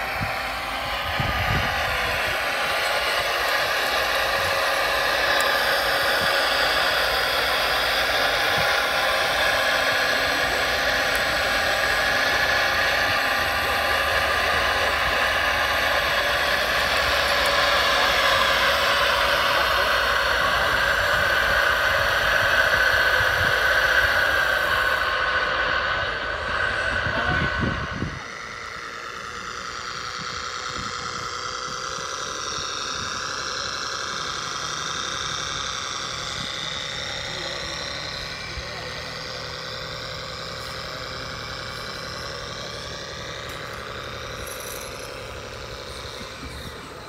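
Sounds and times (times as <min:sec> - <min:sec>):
model excavator mechanical whine: 0:00.0 - 0:47.0.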